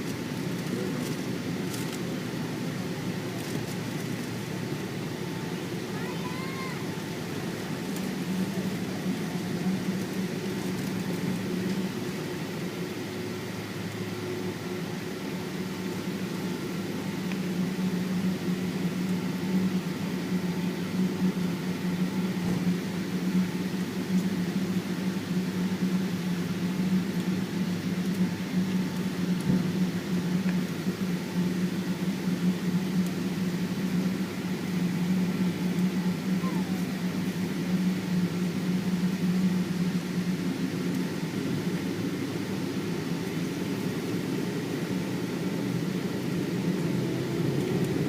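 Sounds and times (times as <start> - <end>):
airliner cabin engine drone: 0.0 - 48.0.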